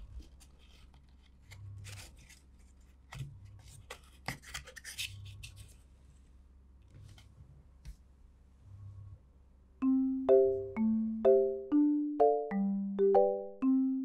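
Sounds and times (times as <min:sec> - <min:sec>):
faint low hum: 0:00.0 - 0:13.7.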